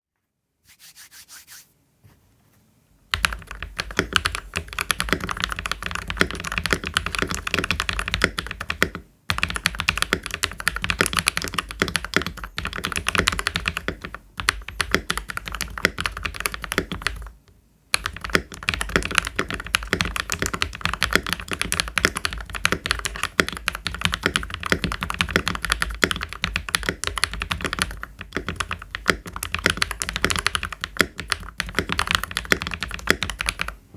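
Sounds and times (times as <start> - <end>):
fast typing on mechanical keyboard: 3.1 - 33.8.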